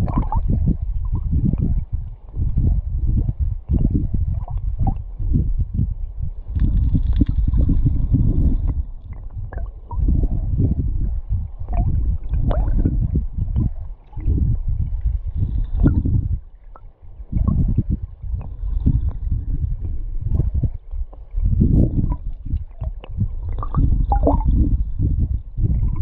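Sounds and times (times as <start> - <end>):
muffled underwater gurgling rumble: 0.0 - 26.0.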